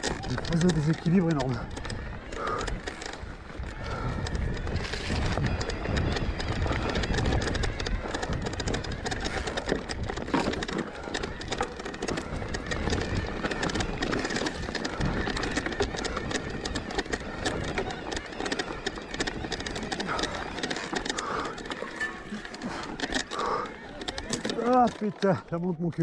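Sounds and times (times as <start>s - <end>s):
bike clattering over stones: 0.0s - 26.0s.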